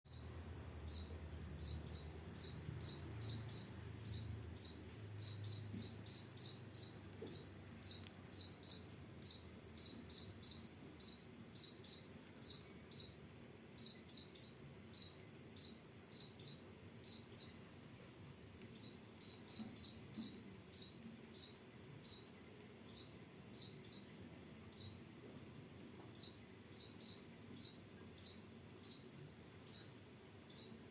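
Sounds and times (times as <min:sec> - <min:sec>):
sunbird high chirps: 0:00.1 - 0:17.7, 0:18.7 - 0:30.9.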